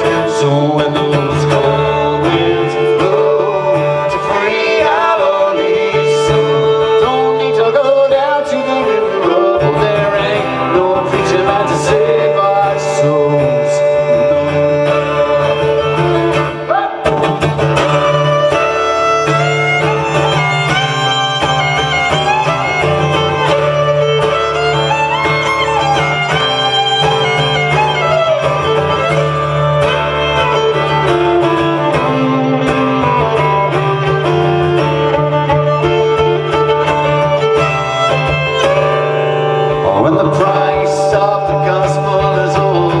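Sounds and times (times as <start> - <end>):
acoustic folk music: 0.0 - 43.0.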